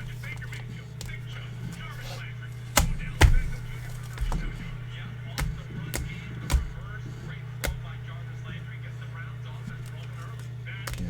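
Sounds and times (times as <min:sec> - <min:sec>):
trading cards tapping on table: 0:00.0 - 0:08.2, 0:09.6 - 0:11.0
steady low hum: 0:00.0 - 0:11.0.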